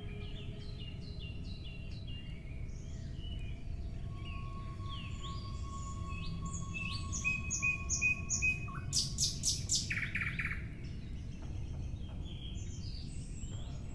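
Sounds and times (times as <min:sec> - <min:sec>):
birds chirping: 0:00.0 - 0:13.9
steady low background noise: 0:00.0 - 0:13.9.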